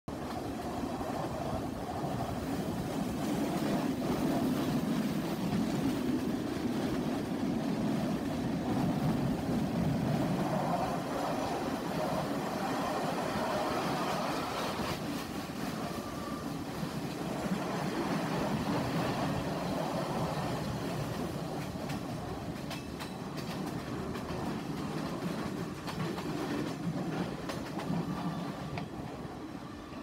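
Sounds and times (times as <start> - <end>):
train wheels running noise: 0.1 - 30.0.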